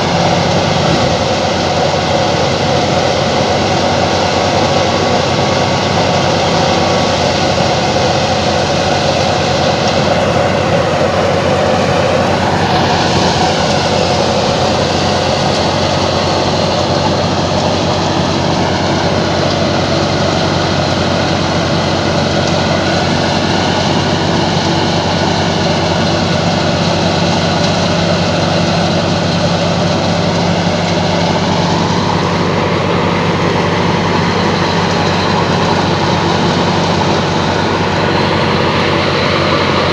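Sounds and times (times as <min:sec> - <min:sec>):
tractor and thresher drone: 0:00.0 - 0:39.9.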